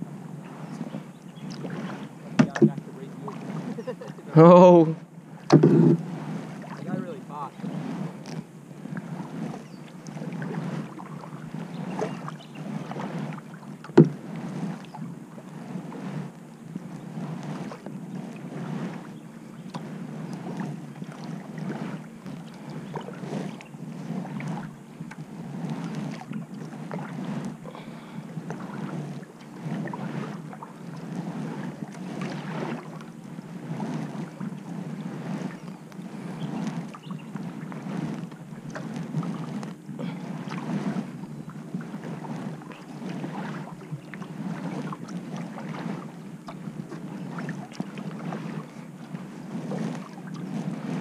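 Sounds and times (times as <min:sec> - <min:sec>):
kayak paddle splashing: 0:00.0 - 0:51.0.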